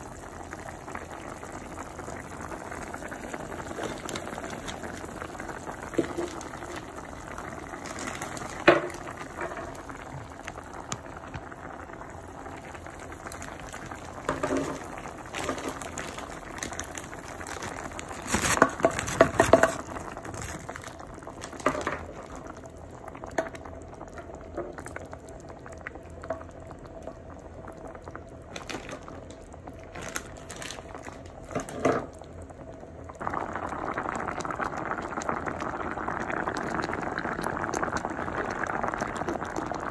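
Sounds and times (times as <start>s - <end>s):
broth bubbling in a pot: 0.0s - 39.9s.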